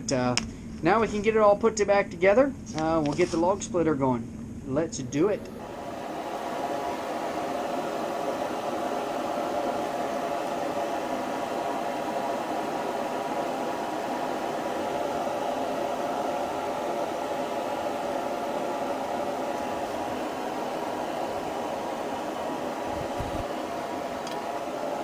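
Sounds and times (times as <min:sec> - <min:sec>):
mechanical whir with hum: 0:00.0 - 0:25.0.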